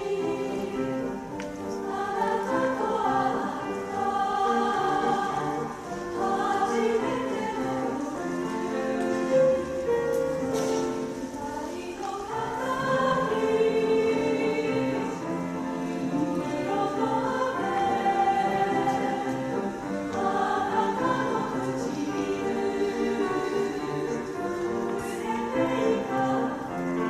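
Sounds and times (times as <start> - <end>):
choir singing: 0.0 - 27.0.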